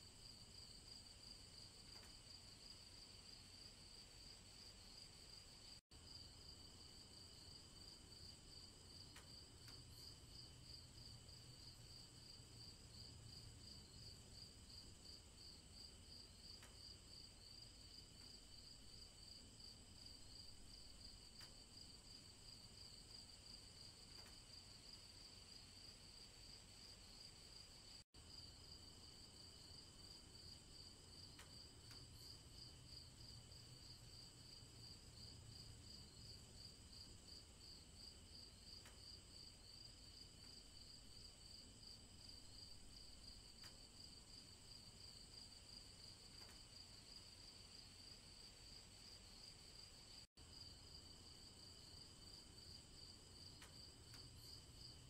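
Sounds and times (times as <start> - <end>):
crickets chirping: 0.1 - 55.0.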